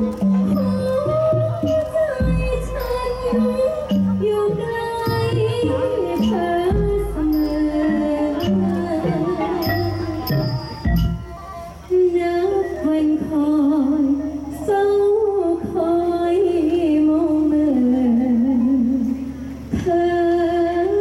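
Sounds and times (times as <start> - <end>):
woman singing into microphone: 0.0 - 21.0.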